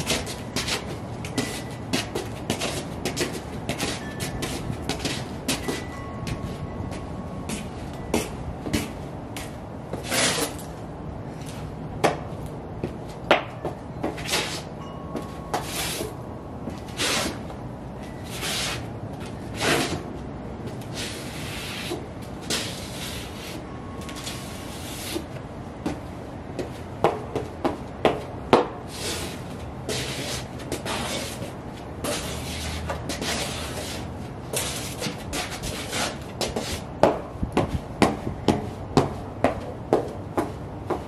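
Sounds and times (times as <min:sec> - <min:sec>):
boots tapping on concrete: 0:00.0 - 0:10.7, 0:11.4 - 0:20.0, 0:25.1 - 0:41.0
soles scraping on concrete: 0:00.0 - 0:41.0.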